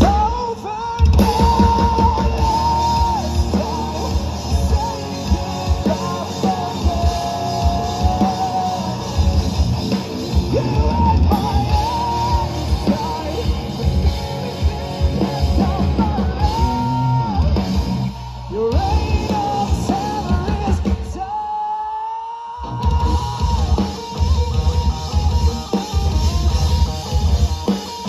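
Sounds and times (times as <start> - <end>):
drum kit: 0.0 - 21.6, 22.6 - 28.0
distorted electric guitars: 0.0 - 28.0.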